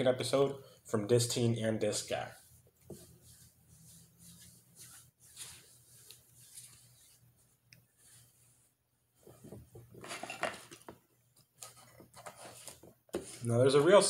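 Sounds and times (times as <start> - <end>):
rustling of hands and sleeves: 0.3 - 14.0.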